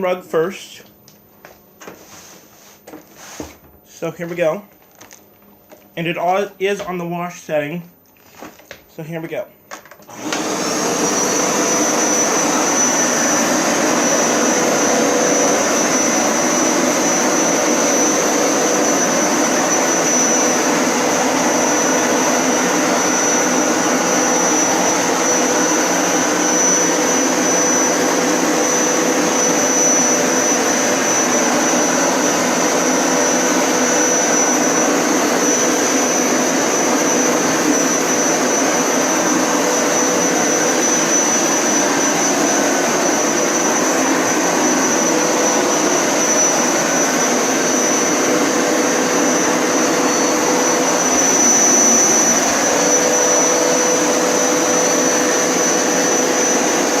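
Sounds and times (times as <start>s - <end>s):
carpet cleaner motor whine: 10.0s - 57.0s.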